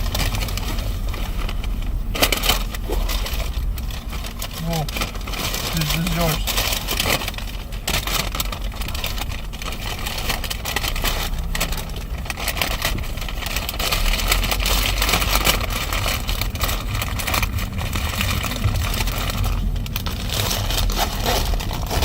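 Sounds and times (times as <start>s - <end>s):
engine and road rumble: 0.0s - 22.0s
rustling and crackling: 0.0s - 22.0s.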